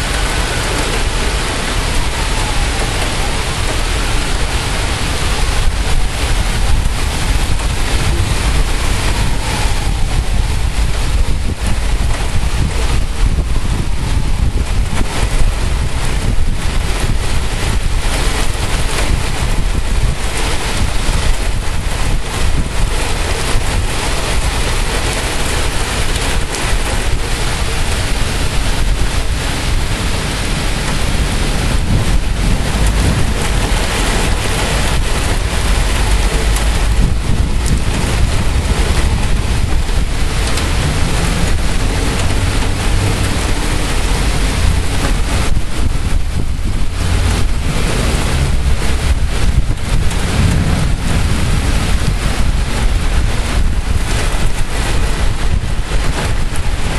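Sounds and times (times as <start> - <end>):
heavy rain pouring: 0.0 - 56.9
wind buffeting microphone: 0.0 - 56.9.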